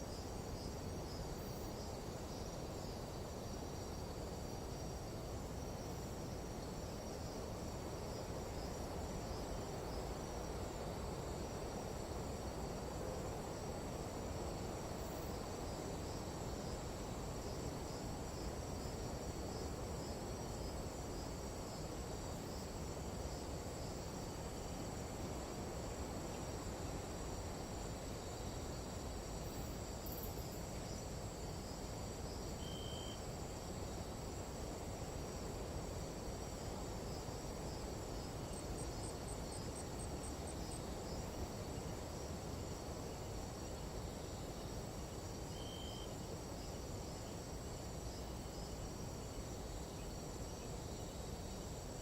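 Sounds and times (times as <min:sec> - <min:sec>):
crickets and insects trilling: 0:00.0 - 0:52.0
night ambience hiss: 0:00.0 - 0:52.0.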